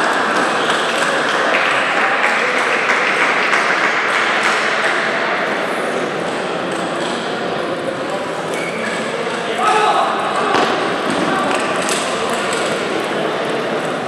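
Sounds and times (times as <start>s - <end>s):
loud hall din: 0.0s - 14.0s.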